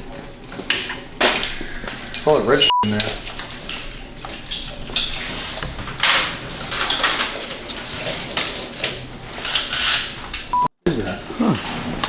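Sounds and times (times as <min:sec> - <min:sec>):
metal tools clinking and scraping: 0:00.5 - 0:10.5.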